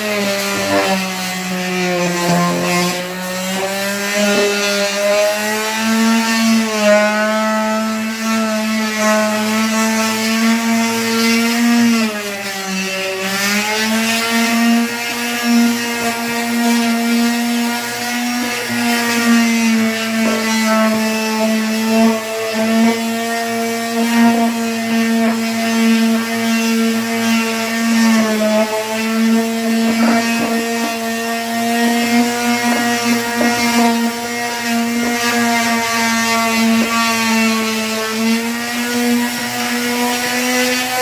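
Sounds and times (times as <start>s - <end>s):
power tool cutting wood: 0.0s - 41.0s.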